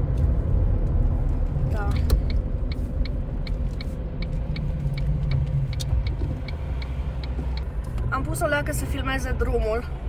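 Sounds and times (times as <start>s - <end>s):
turn signal ticking: 0.0s - 9.8s
car rumble inside cabin: 0.0s - 10.0s.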